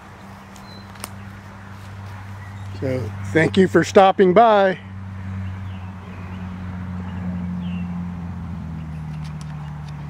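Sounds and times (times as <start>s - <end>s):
engine running with low hum: 0.0s - 10.0s.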